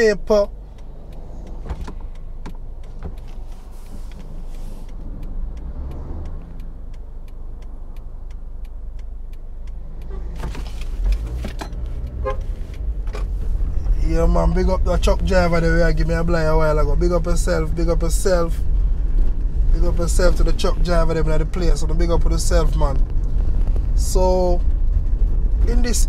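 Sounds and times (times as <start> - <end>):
car engine and road noise: 0.0 - 26.0
light ticking: 0.0 - 26.0.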